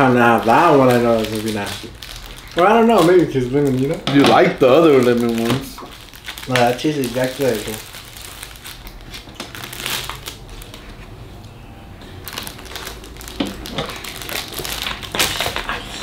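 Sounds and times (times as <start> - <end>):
plastic wrappers crinkling: 0.0 - 11.0, 12.0 - 16.0.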